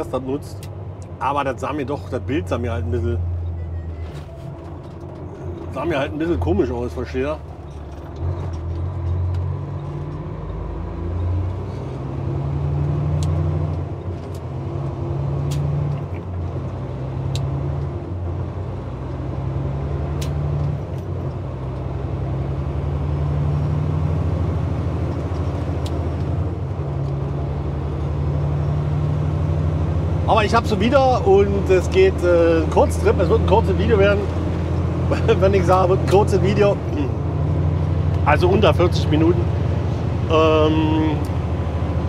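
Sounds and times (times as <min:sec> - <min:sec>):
truck diesel engine droning: 0:00.0 - 0:42.0.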